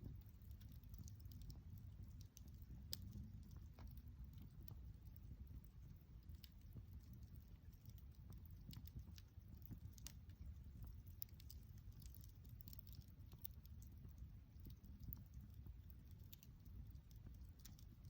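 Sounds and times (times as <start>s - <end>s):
low steady rumble: 0.0s - 18.0s
wood fire crackling: 0.0s - 18.0s.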